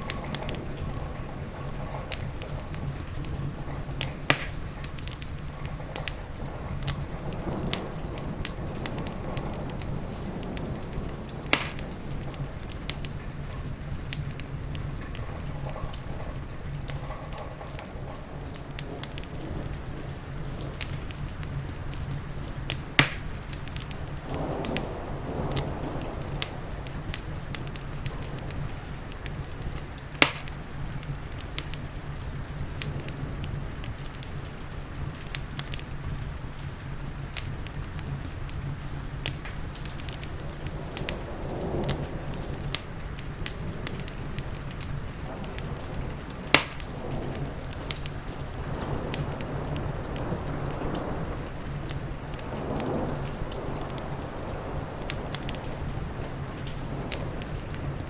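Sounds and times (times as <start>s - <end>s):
crackling wood fire: 0.0s - 58.0s
loud fire snaps: 0.0s - 58.0s
rain: 0.0s - 58.0s.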